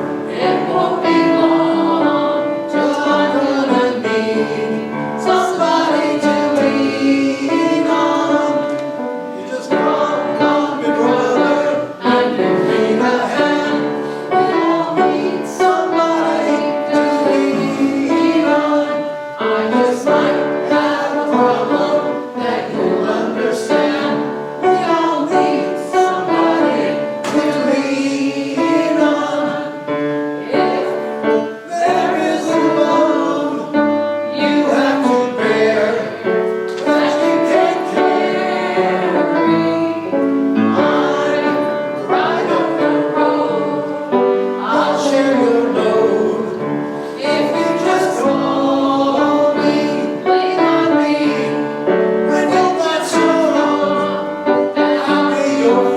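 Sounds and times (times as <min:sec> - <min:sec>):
piano accompaniment: 0:00.0 - 0:55.9
voices singing worship song: 0:00.0 - 0:55.9.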